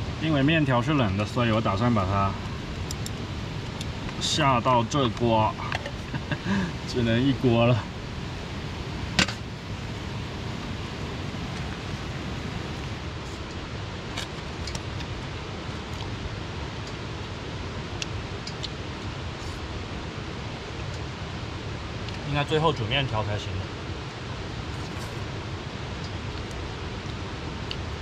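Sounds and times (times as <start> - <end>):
fast flowing river: 0.0 - 28.0.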